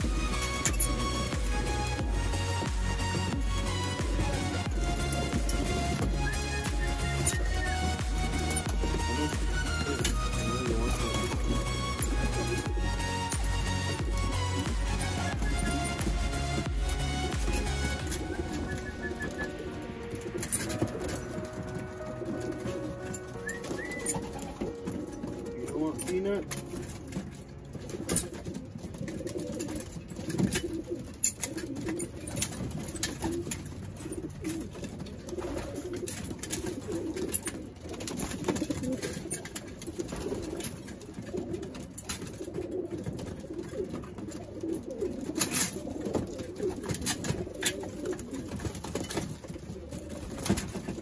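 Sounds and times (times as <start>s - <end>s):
pigeon wings flapping: 0.0s - 51.0s
pigeons cooing: 0.0s - 51.0s.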